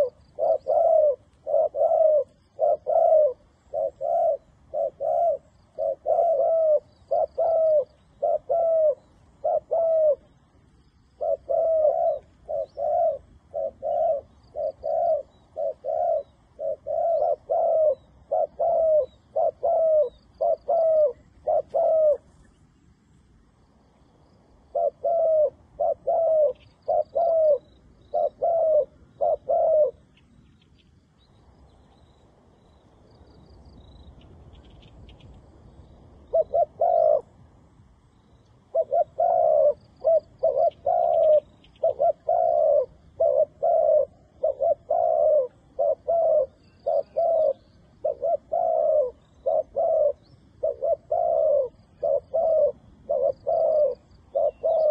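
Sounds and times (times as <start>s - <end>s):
dove cooing: 0.0s - 22.6s, 24.6s - 30.3s, 36.1s - 37.7s, 38.5s - 54.9s.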